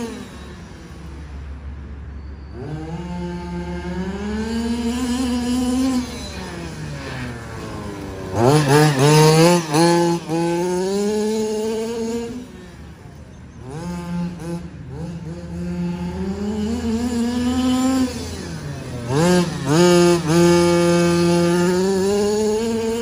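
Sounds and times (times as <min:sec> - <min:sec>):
small two-stroke engine revving: 0:00.0 - 0:01.4, 0:02.5 - 0:23.0.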